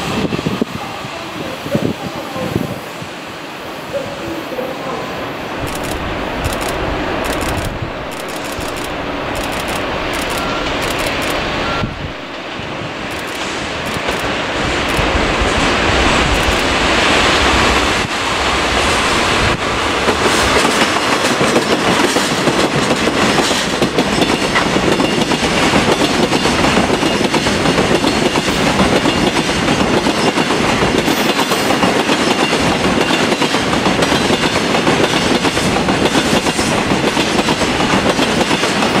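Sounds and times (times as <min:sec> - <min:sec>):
diesel locomotive passing: 0:00.0 - 0:39.0
wheels clickety-clack on rail joints: 0:05.6 - 0:18.0, 0:18.7 - 0:39.0.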